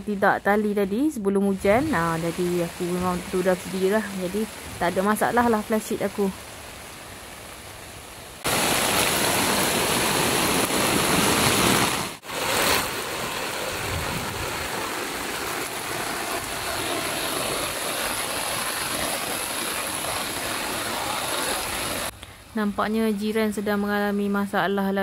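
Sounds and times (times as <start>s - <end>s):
heavy rain pouring: 1.6s - 22.2s.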